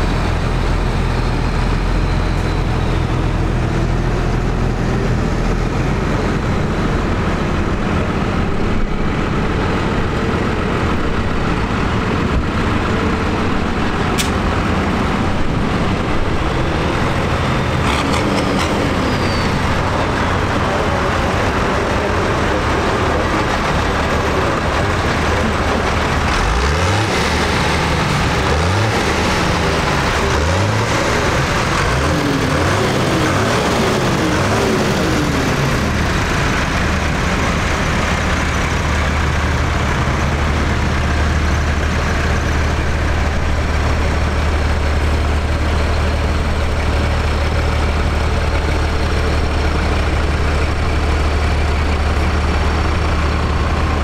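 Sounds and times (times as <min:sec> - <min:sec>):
engine revving: 0:00.0 - 0:54.0
tractor diesel engines passing: 0:00.0 - 0:54.0.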